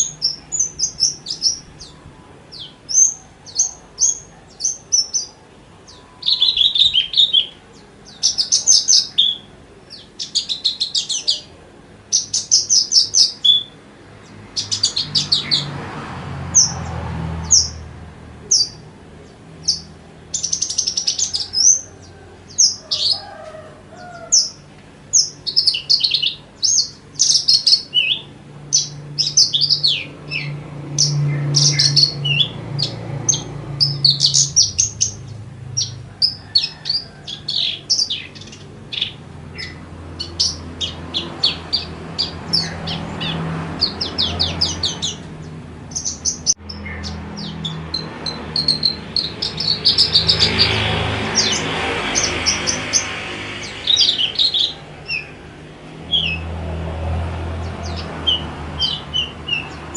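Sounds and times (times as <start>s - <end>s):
bird chirping and trilling: 0.0s - 56.5s, 57.6s - 59.9s.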